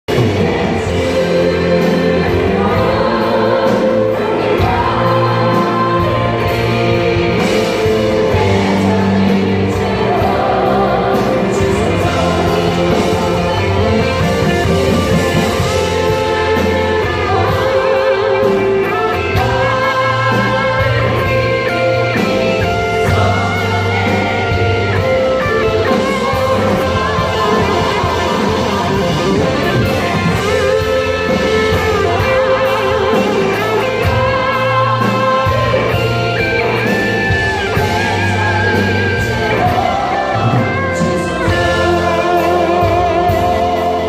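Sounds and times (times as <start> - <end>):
bass line and accompaniment: 0.0 - 44.0
people singing: 0.0 - 44.0
electric guitar sustained notes: 0.1 - 44.0.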